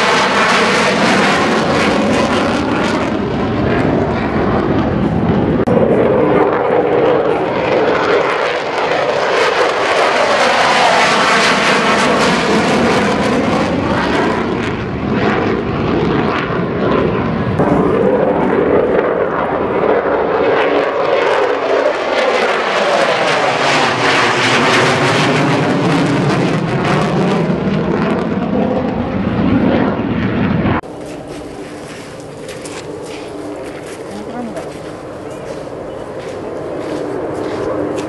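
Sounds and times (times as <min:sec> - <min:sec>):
fighter jets roaring overhead: 0:00.0 - 0:38.0.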